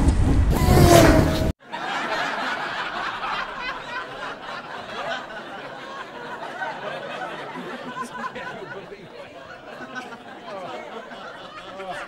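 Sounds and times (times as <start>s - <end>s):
people snickering and chuckling: 0.6s - 12.0s
voices: 1.7s - 12.0s.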